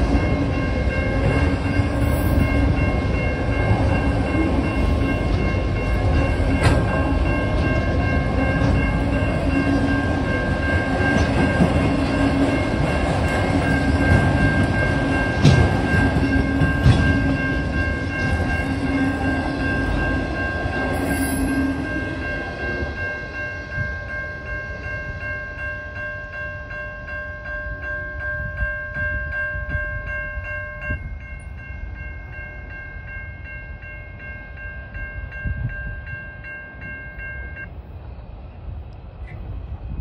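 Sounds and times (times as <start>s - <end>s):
crossing warning bell ringing: 0.0s - 38.0s
freight train rumbling past: 0.0s - 40.0s.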